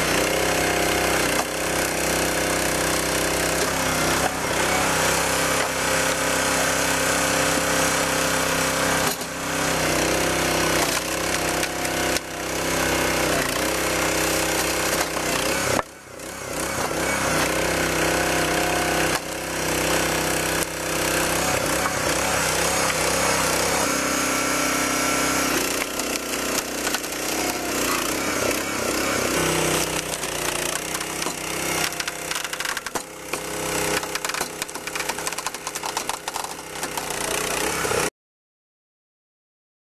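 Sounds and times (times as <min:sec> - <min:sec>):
log splitter engine running: 0:00.0 - 0:38.1
wood cracking and splitting: 0:00.2 - 0:37.6.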